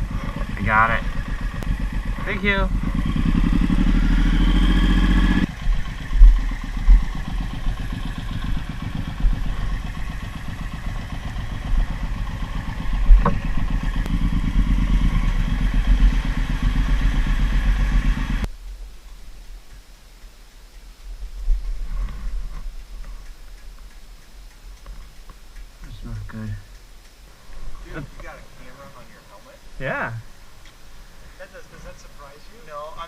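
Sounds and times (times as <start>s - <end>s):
motorcycle engine idling: 0.0s - 18.5s, 21.8s - 33.0s.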